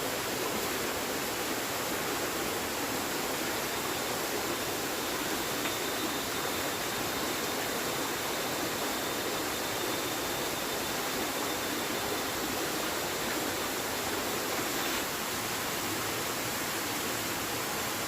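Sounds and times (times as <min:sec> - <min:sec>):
rushing water: 0:00.0 - 0:18.0
faint high steady tone: 0:00.5 - 0:15.1.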